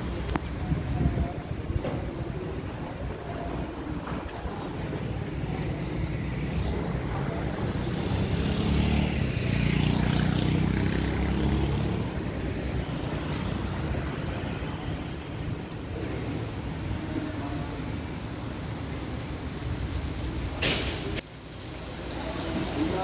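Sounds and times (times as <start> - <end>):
rumble of passing vehicles: 0.0 - 23.0.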